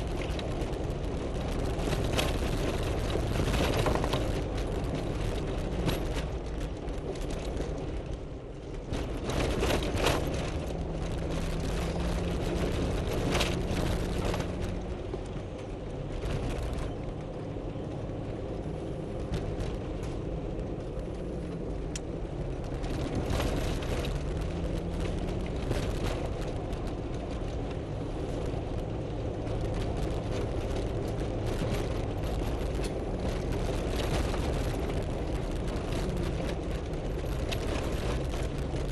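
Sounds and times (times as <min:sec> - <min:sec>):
knocks and rattles over bumps: 0:00.0 - 0:38.9
tyre and suspension noise: 0:00.0 - 0:38.9
vehicle engine running: 0:00.0 - 0:38.9.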